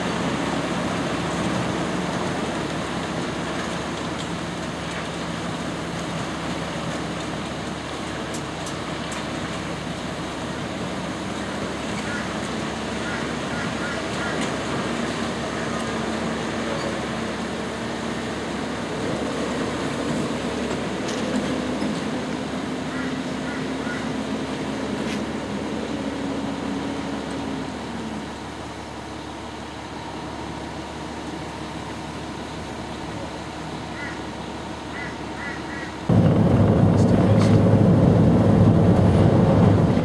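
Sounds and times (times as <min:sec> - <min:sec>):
diesel truck engine droning: 0:00.0 - 0:40.0.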